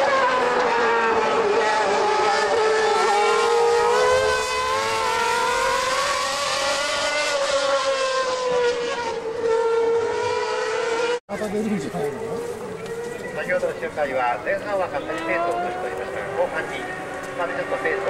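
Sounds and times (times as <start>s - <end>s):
racing car engines passing at high revs: 0.0s - 11.2s, 12.1s - 18.0s.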